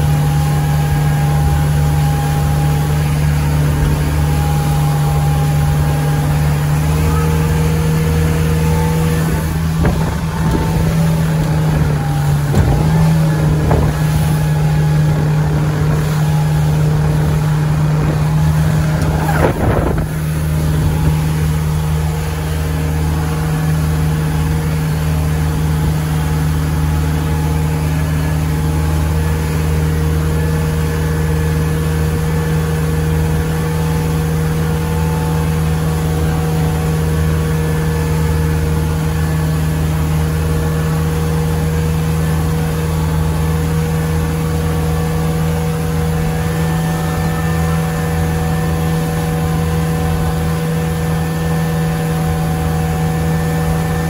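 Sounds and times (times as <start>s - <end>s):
motorboat engine humming: 0.0s - 54.0s.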